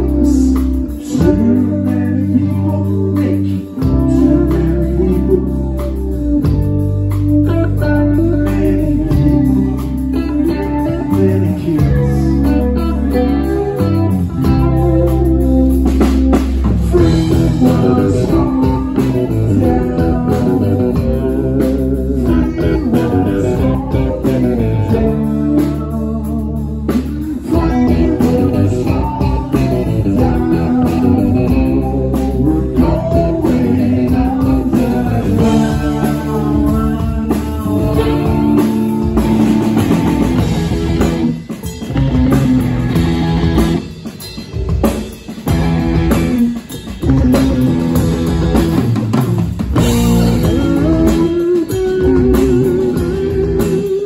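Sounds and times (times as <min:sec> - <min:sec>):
person singing: 0:00.0 - 0:42.6, 0:49.8 - 0:54.0
bass guitar: 0:00.0 - 0:54.0
drum kit: 0:00.0 - 0:54.0
electric guitars: 0:00.0 - 0:54.0.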